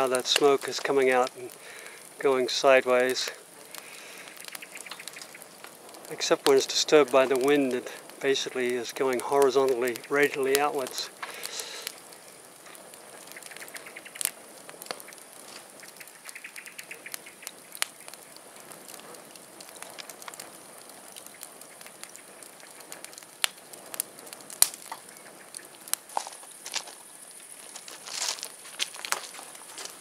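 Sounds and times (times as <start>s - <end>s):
fire crackling and popping: 0.0s - 30.0s
rush of flame: 0.0s - 30.0s.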